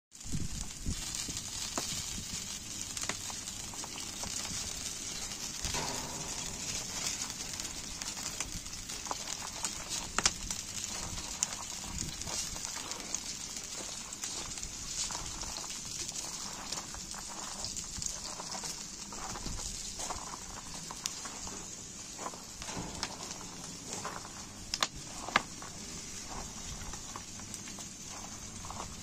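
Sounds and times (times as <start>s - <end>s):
charcoal fire sizzling: 0.1s - 29.0s
fire crackles and pops: 0.1s - 29.0s.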